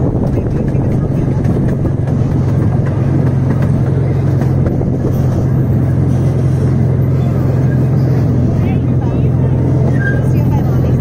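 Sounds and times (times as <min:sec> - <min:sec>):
train engine hum and rumble: 0:00.0 - 0:11.0.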